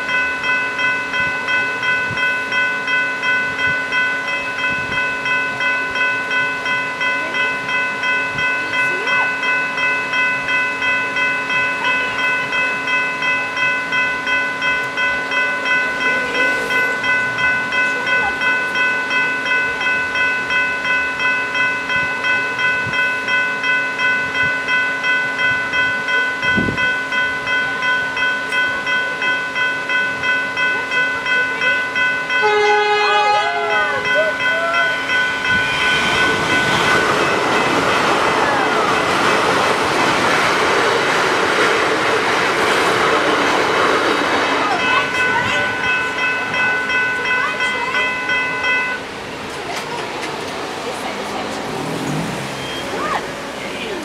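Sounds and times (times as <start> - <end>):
level-crossing bells ringing: 0.0 - 54.0.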